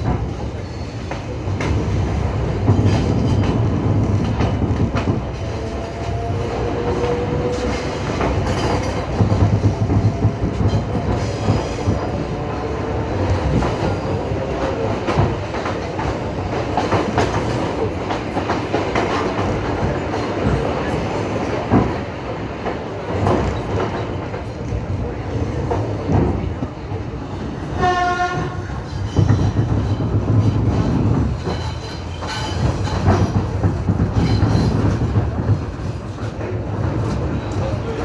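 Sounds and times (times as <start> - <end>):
train wheels clattering: 0.0 - 38.0.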